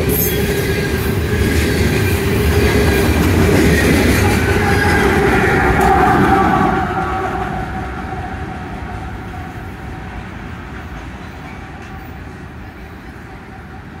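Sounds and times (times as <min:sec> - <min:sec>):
diesel locomotive rumbling: 0:00.0 - 0:14.0
train wheels on rails: 0:00.0 - 0:14.0.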